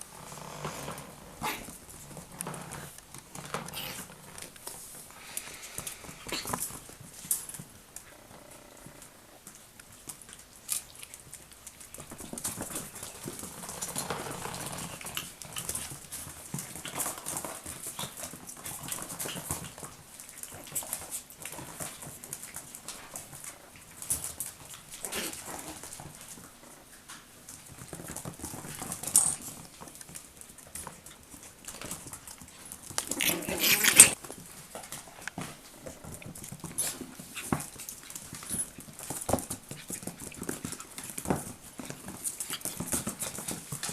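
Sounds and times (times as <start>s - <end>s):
puppies scuffling and clicking: 0.0s - 43.9s.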